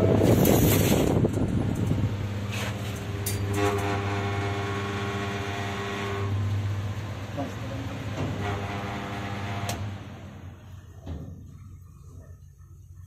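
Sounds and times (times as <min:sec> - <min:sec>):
lift whine of several tones: 0:00.0 - 0:11.0
lift low hum: 0:00.0 - 0:12.7.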